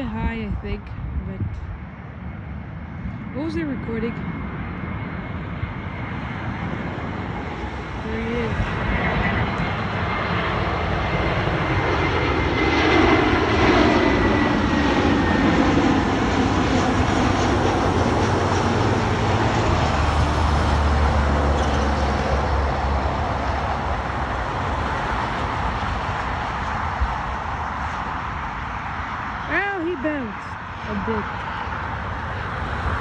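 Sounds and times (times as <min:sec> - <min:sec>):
jet airliner flying past: 0:00.0 - 0:33.0
low rumble: 0:00.0 - 0:33.0.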